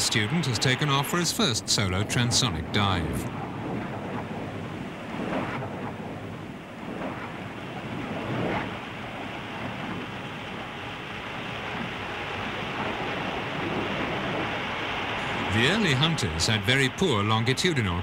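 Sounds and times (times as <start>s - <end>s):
jet rushing airflow roar: 0.0s - 18.0s.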